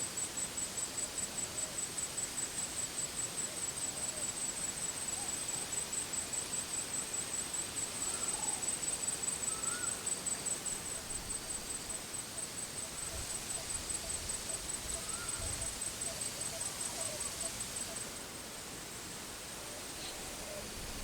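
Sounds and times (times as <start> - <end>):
insects chirping: 0.1 - 21.0.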